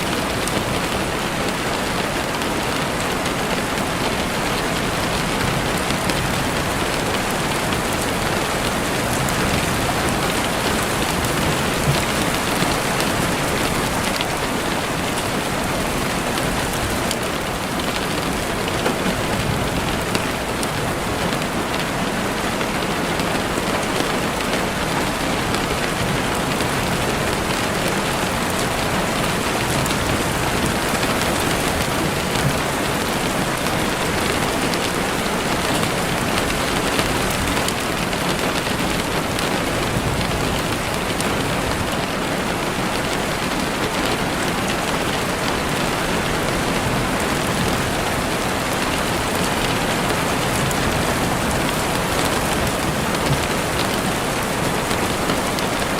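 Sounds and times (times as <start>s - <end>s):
heavy rain on a window: 0.0s - 55.9s.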